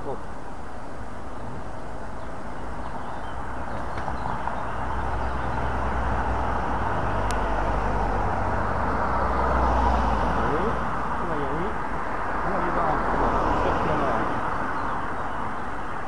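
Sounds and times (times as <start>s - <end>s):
car engine humming: 0.0s - 16.0s
outdoor background hiss: 0.0s - 16.0s.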